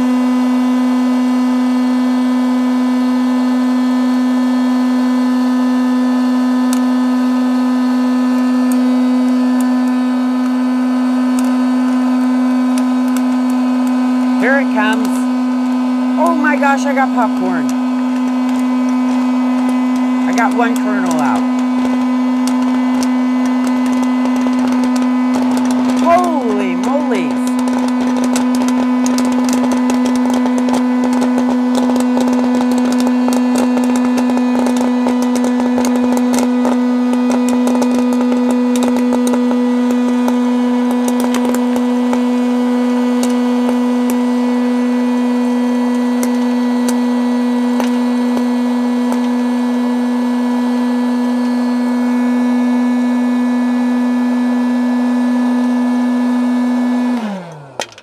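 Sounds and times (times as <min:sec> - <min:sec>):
popcorn popper fan hum: 0:00.0 - 0:58.0
popcorn popping: 0:00.1 - 0:58.0.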